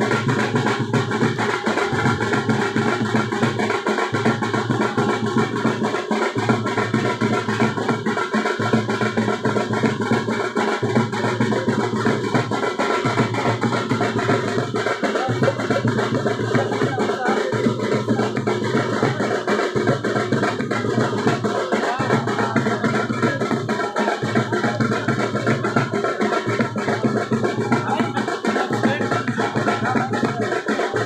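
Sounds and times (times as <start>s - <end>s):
drum-led music: 0.0s - 31.0s.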